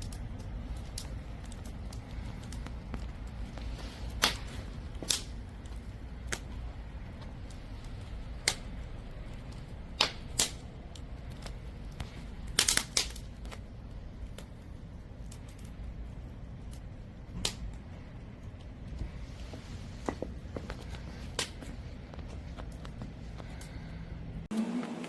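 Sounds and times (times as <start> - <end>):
steady low rumble of stove: 0.0 - 25.0
wood fire popping: 0.0 - 25.0.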